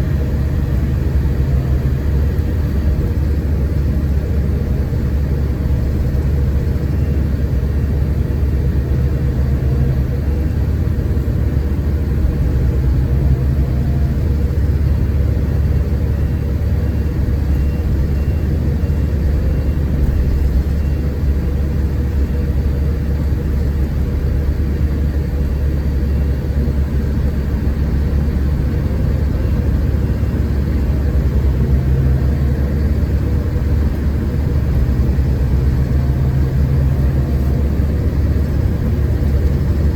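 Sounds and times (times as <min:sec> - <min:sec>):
diesel engine droning: 0:00.0 - 0:39.9
road and cabin noise: 0:00.0 - 0:39.9.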